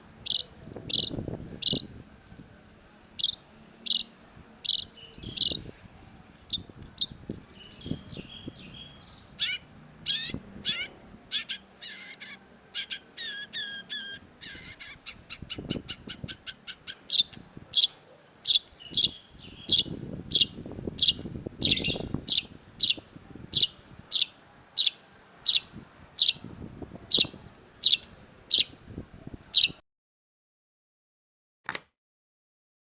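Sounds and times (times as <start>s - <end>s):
shrike singing: 0.1s - 29.8s.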